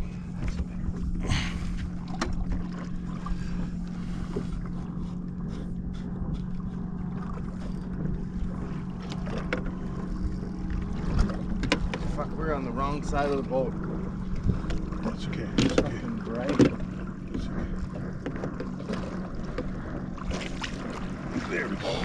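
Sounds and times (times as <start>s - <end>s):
boat motor humming: 0.0s - 22.0s
water sounds: 0.0s - 22.0s
wind rumble on microphone: 0.0s - 22.0s.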